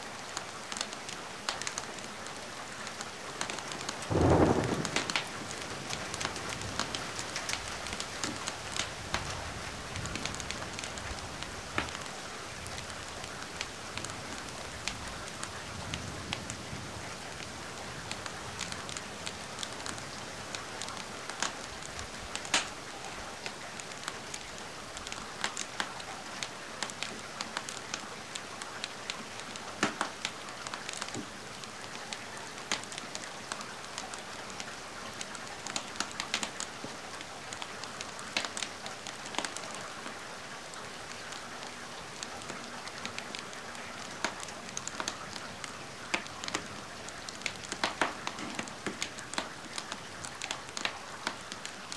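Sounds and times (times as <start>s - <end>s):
rain hiss: 0.0s - 51.9s
wood fire crackling and popping: 0.2s - 16.6s, 17.4s - 40.1s, 41.0s - 51.9s.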